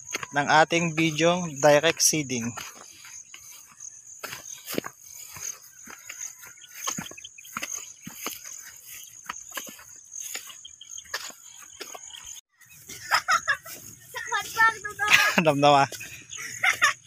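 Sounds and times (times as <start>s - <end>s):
crickets chirring: 0.0s - 17.0s
footsteps on grass: 0.0s - 17.0s.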